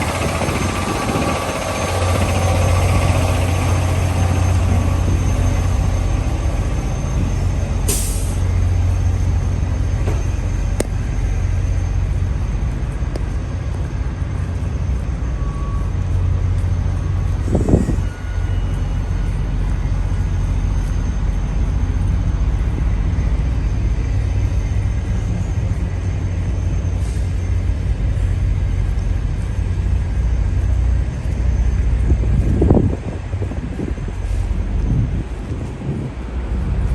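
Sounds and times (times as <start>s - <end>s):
diesel trucks idling: 0.0s - 36.9s.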